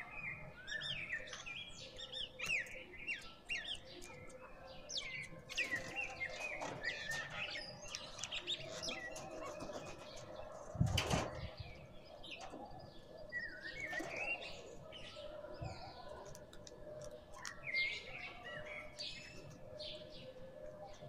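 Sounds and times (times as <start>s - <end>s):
birds chirping: 0.0s - 21.0s
beaks pecking on concrete: 0.7s - 11.3s, 12.0s - 21.0s.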